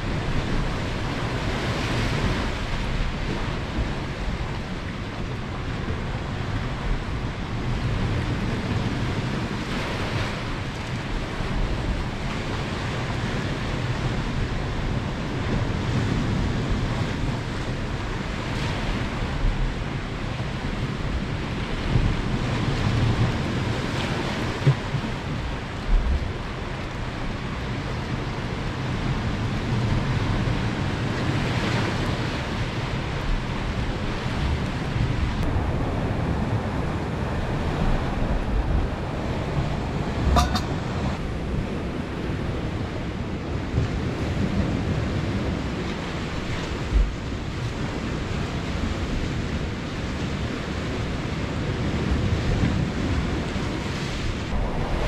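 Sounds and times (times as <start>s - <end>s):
sea surf: 0.0s - 55.0s
wind rumbling on microphone: 0.0s - 55.0s.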